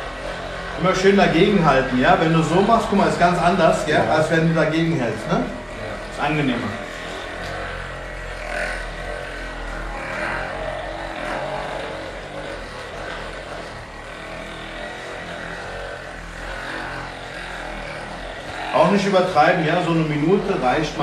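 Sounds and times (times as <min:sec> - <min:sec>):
massage gun running: 0:00.0 - 0:21.0.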